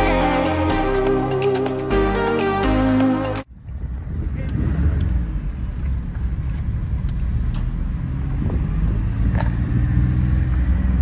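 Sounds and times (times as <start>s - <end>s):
car engine rumbling: 0.0s - 11.0s
road noise: 0.0s - 11.0s.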